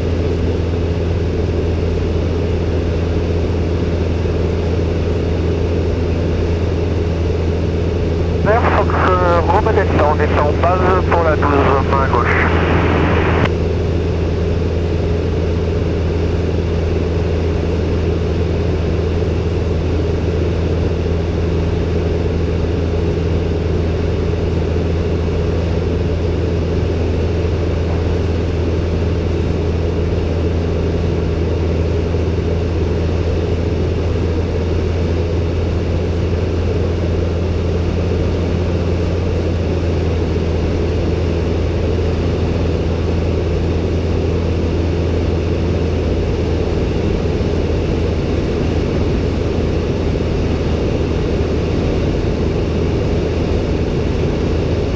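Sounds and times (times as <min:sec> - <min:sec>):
light aircraft engine droning: 0:00.0 - 0:54.9.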